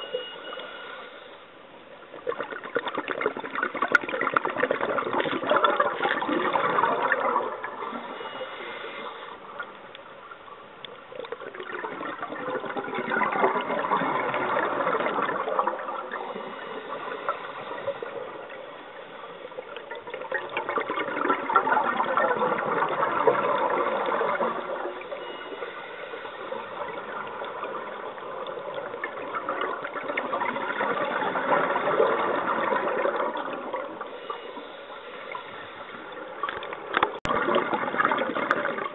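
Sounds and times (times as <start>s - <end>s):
underwater exhaust bubbles rushing: 2.0s - 38.9s.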